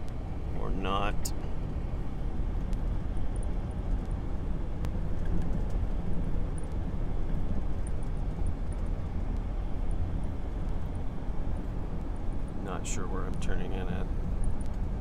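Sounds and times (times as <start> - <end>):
car interior engine and tyre noise: 0.0 - 15.0.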